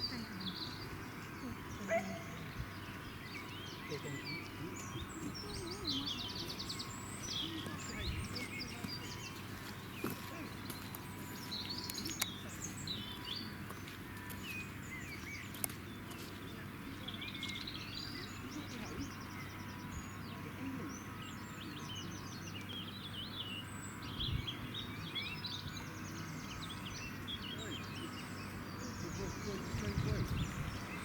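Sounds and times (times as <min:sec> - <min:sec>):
low background noise: 0:00.0 - 0:31.0
small birds chirping: 0:00.0 - 0:31.0.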